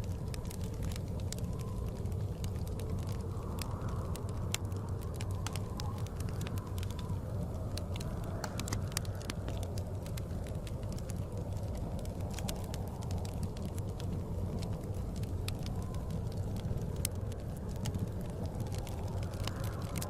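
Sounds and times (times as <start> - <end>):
blizzard wind rumble: 0.0 - 20.0
wood fire crackling and popping: 0.0 - 20.0.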